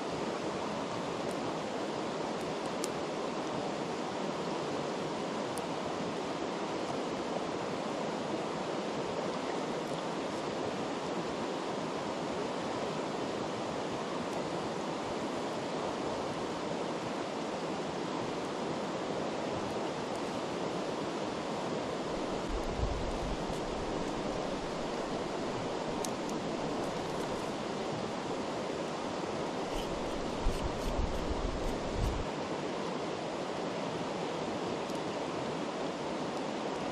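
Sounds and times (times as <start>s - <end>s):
river rushing over stones: 0.0s - 36.9s.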